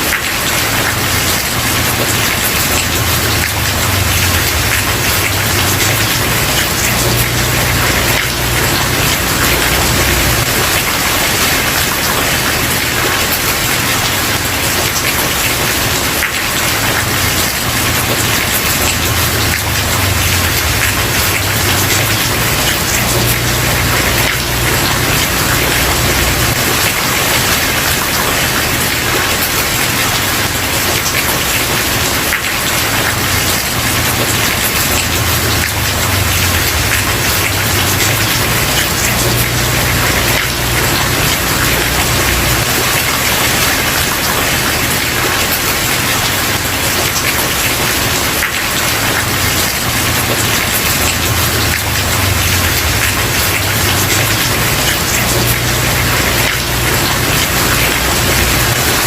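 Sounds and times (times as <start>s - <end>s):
heavy rain on a wooden porch: 0.0s - 59.0s.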